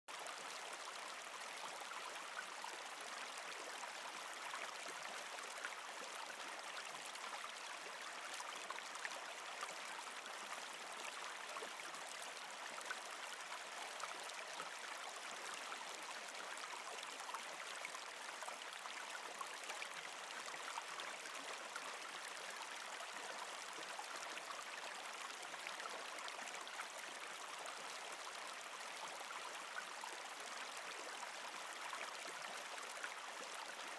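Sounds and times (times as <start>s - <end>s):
stream flowing over rocks: 0.1s - 33.9s.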